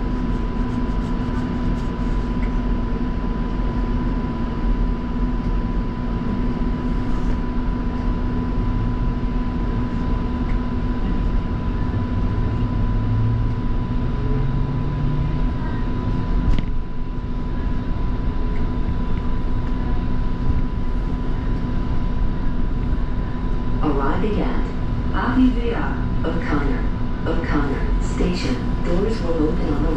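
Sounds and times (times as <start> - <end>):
train rumble and hum: 0.0 - 29.9.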